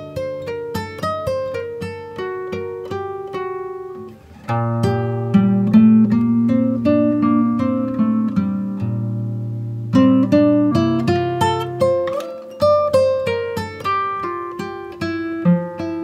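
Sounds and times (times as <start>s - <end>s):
upbeat plucked-string tune: 0.0s - 16.0s.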